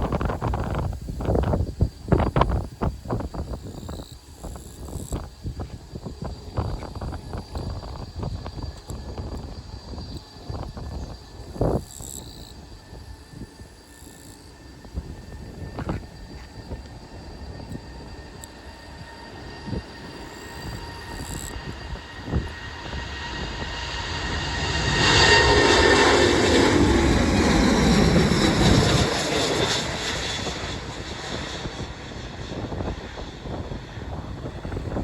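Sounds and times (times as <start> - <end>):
jet engines passing by: 0.0 - 35.0.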